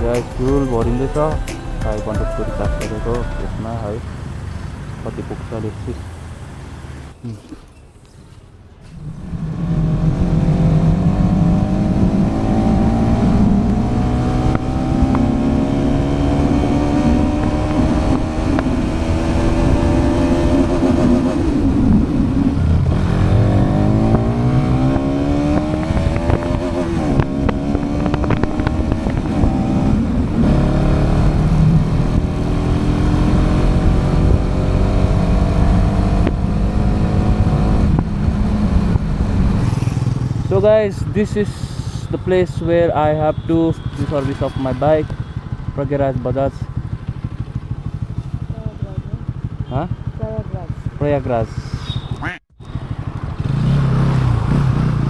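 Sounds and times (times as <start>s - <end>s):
motorcycle engine accelerating: 8.9s - 55.0s.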